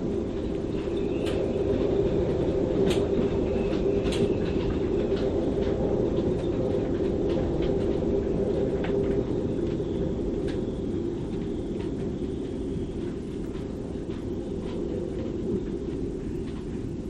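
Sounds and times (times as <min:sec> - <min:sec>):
wind howling through rigging: 0:00.0 - 0:17.0.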